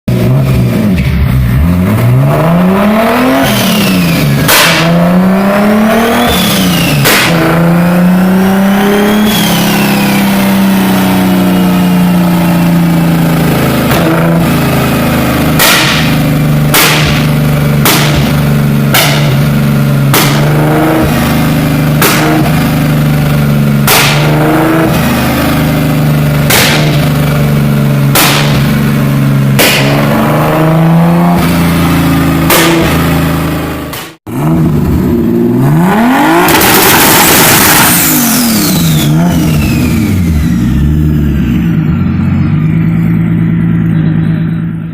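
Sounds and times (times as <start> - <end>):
car engine revving: 0.1 - 44.9
exhaust backfire bangs: 3.1 - 44.9.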